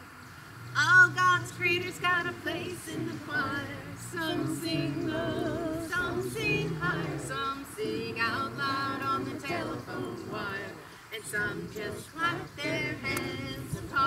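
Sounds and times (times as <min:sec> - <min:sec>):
congregation singing a hymn: 0:00.8 - 0:14.0.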